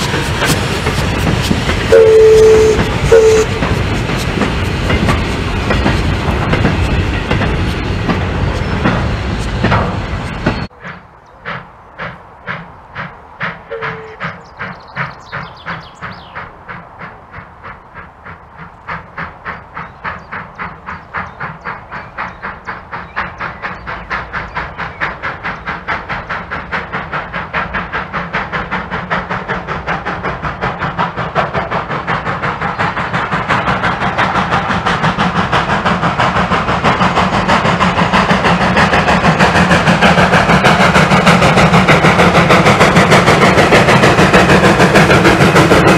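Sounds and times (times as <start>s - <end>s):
steam locomotive exhaust beats: 0.0s - 45.9s.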